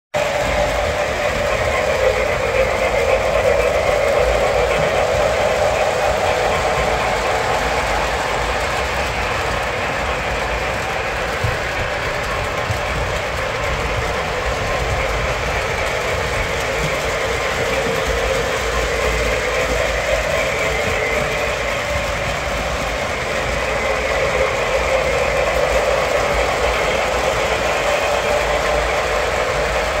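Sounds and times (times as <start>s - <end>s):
model trains running on track: 0.1s - 30.0s.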